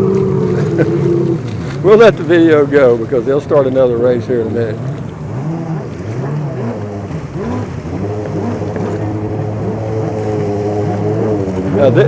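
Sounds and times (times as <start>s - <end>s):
jet ski engines whining: 0.0s - 12.0s
low engine hum: 0.0s - 12.0s.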